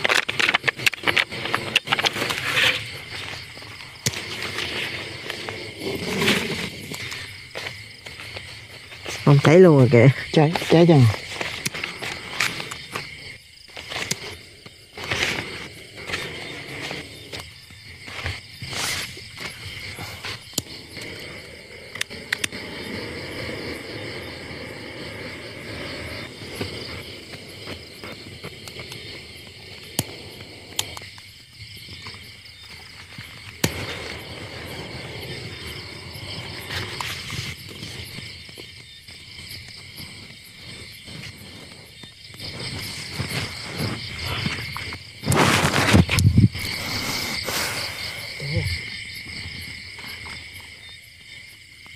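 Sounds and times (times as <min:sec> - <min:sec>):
crickets and insects chirring: 0:00.0 - 0:51.9.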